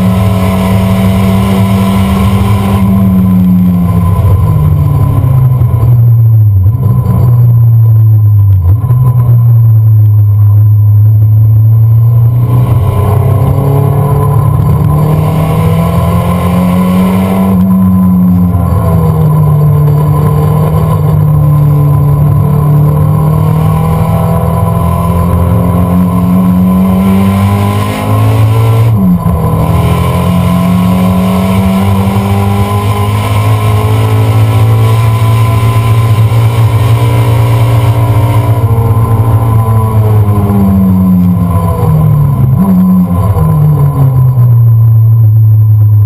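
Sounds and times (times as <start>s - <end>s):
car engine accelerating hard: 0.0s - 46.0s.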